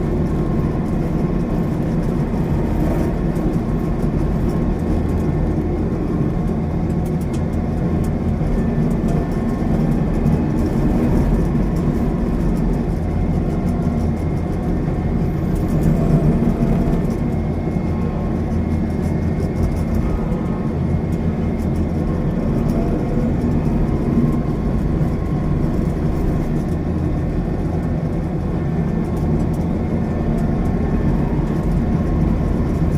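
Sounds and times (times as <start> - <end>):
combine harvester engine droning: 0.0 - 32.9.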